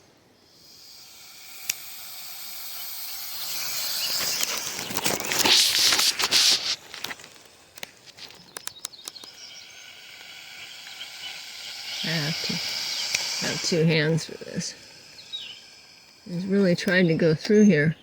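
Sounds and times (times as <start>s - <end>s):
snake hissing: 0.0s - 18.0s
sharp clicks: 0.6s - 17.6s.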